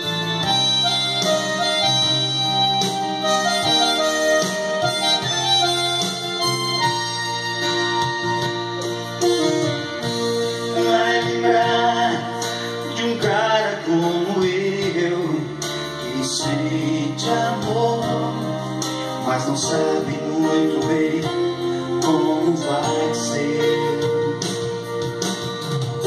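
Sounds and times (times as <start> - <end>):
electronic keyboard playing slow song: 0.0 - 26.0.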